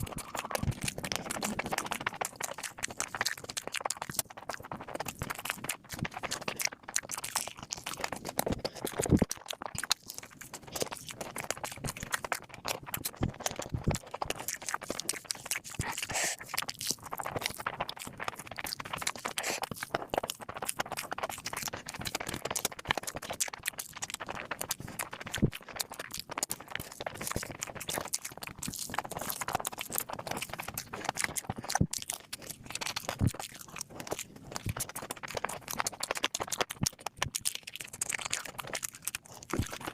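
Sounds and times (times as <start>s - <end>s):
person chewing and crunching: 0.0s - 39.9s
wet mouth clicks: 0.0s - 39.9s.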